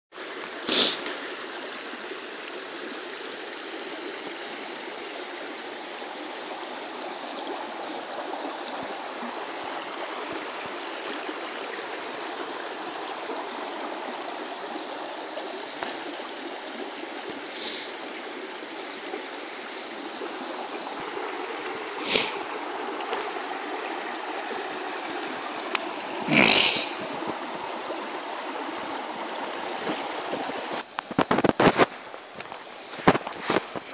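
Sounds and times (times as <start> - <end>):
river rushing over rocks: 0.2 - 33.9.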